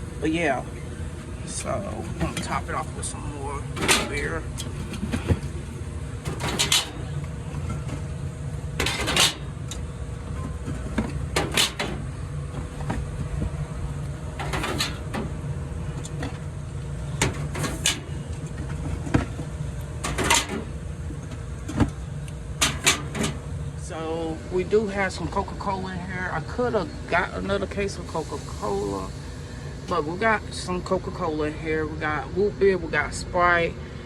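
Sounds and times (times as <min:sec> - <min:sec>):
vending machine low hum: 0:00.0 - 0:34.0.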